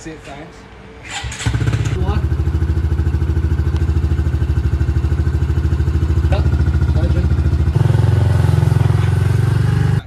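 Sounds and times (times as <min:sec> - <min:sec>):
small motorbike engine idling: 0:01.1 - 0:10.0.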